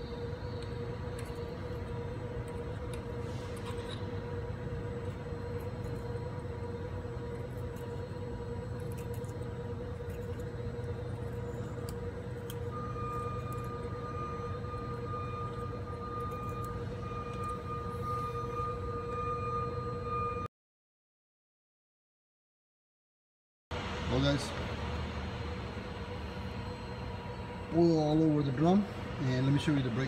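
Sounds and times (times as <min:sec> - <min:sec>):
higher whine: 0:00.0 - 0:20.5, 0:23.7 - 0:30.0
machine hum with whine: 0:00.0 - 0:20.5, 0:23.7 - 0:30.0.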